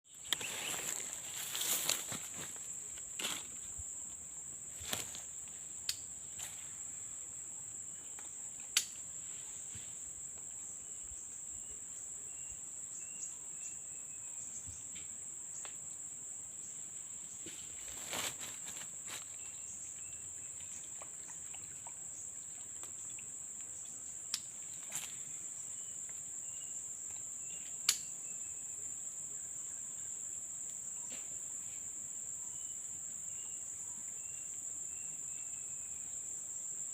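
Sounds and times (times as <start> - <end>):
insects chorus drone: 0.0 - 36.9.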